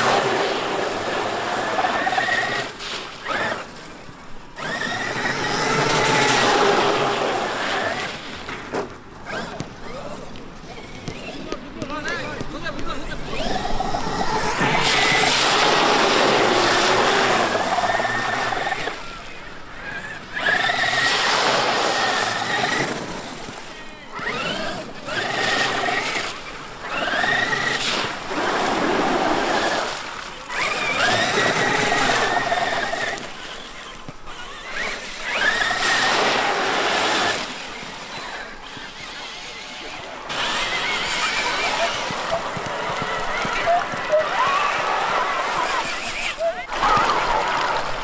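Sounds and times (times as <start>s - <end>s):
water and mud spraying: 0.0s - 8.5s, 13.2s - 48.0s.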